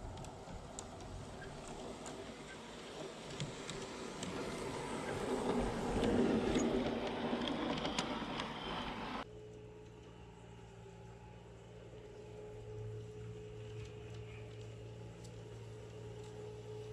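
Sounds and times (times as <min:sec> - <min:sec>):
model train motor rumble: 0:00.0 - 0:16.9
quiet steady hum: 0:00.0 - 0:16.9
wheels clicking over rail joints: 0:00.0 - 0:16.9.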